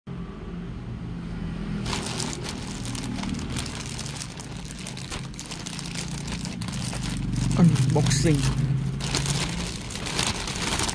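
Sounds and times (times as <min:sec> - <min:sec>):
packaging rustling and crinkling: 0:01.8 - 0:10.9.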